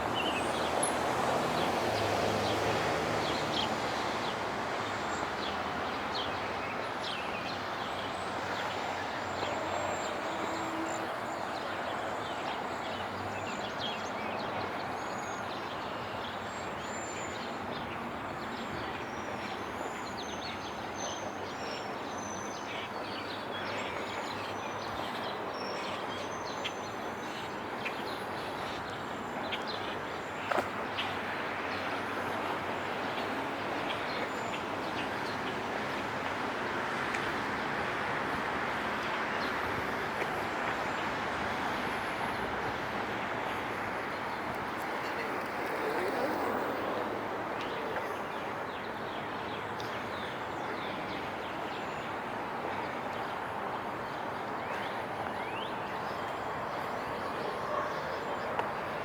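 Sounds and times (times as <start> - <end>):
city street traffic hum: 0.0 - 59.0.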